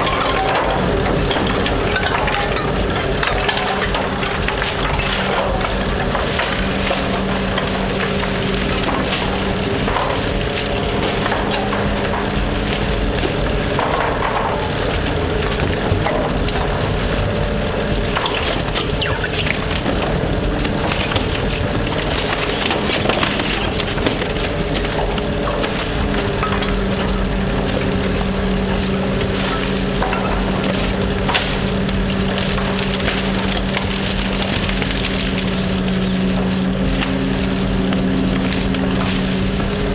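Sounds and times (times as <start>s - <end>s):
bags and boxes crunching: 0.0s - 39.9s
garbage truck machine hum: 0.0s - 39.9s.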